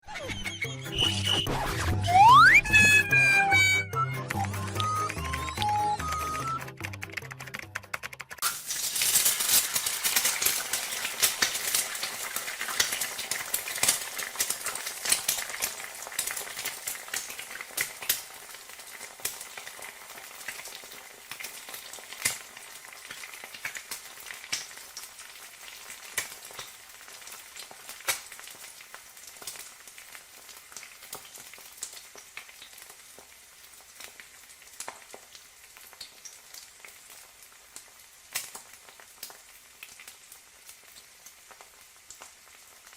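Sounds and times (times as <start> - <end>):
egg sizzling and popping: 0.3 - 42.9.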